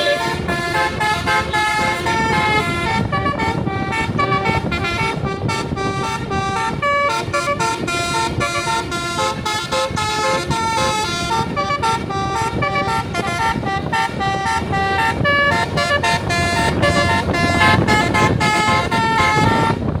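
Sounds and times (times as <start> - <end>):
musical air horn playing tune: 0.0 - 19.9
low engine rumble: 0.0 - 20.0.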